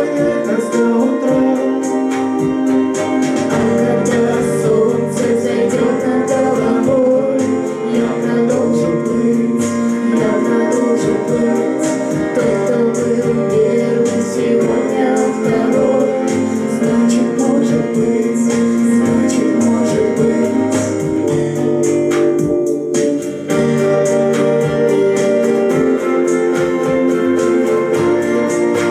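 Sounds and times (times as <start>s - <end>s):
keyboard: 0.0s - 28.9s
live band playing: 0.0s - 28.9s
person singing: 0.0s - 28.9s.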